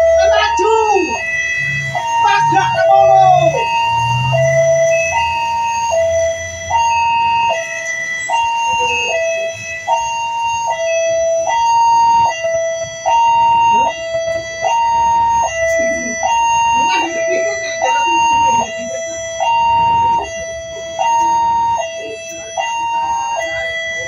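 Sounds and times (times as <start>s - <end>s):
level crossing two-tone alarm: 0.0s - 24.0s
low rumble of road traffic: 0.0s - 24.0s.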